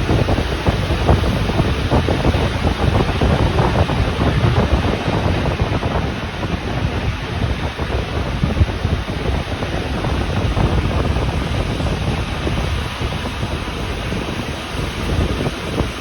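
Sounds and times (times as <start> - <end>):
rushing air: 0.0 - 16.0
train wheels rumbling on rails: 0.0 - 16.0.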